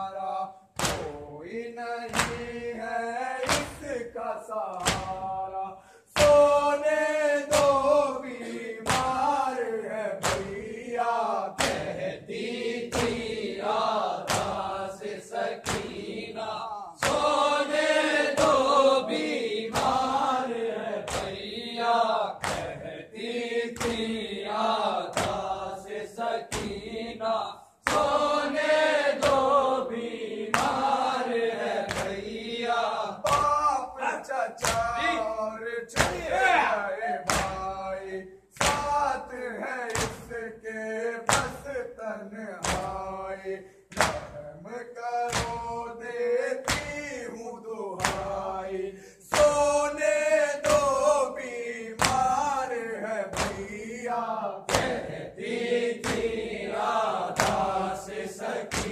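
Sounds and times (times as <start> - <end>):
men chanting a lament: 0.0 - 58.9
rhythmic chest-beating slaps: 0.0 - 58.9.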